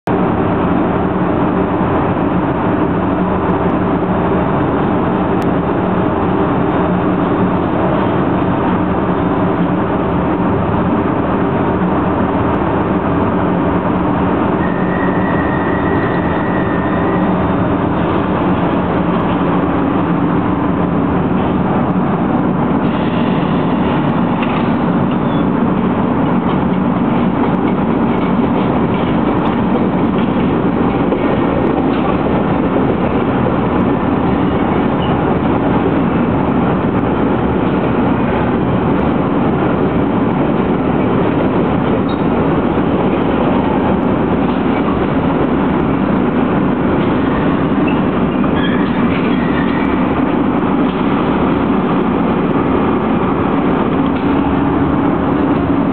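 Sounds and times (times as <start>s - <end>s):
train wheels on track: 0.0s - 55.9s.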